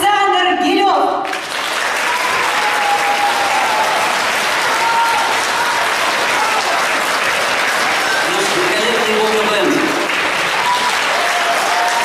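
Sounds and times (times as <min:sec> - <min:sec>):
audience applauding: 0:01.2 - 0:12.0.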